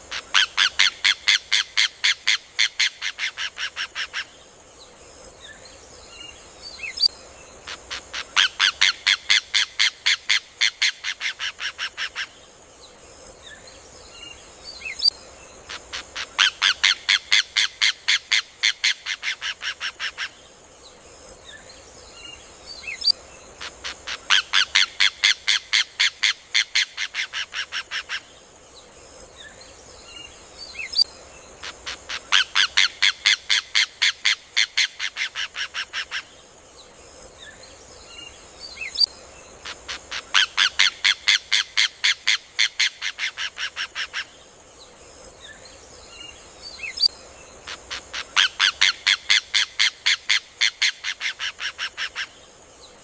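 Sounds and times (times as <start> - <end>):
faint bird chirps: 0.0 - 50.4
bird singing rattling song: 0.0 - 53.0
steady high hiss: 0.0 - 53.0.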